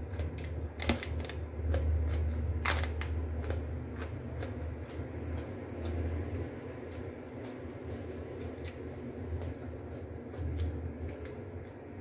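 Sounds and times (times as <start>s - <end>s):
low hum: 0.0s - 12.0s
person chewing crunchy food: 0.0s - 12.0s.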